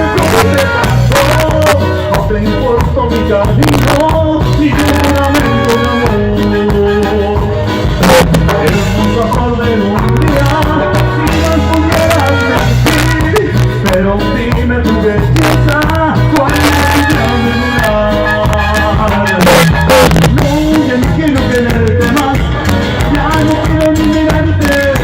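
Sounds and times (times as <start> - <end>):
live band playing dance tune: 0.0 - 25.0.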